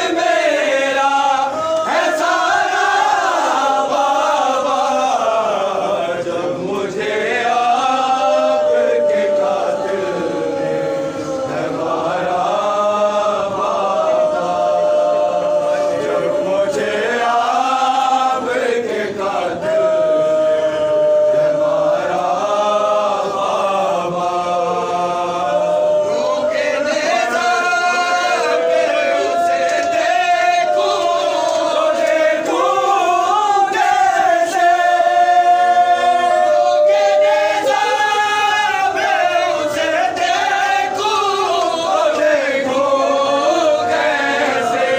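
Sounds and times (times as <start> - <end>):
men chanting a lament: 0.0 - 44.9.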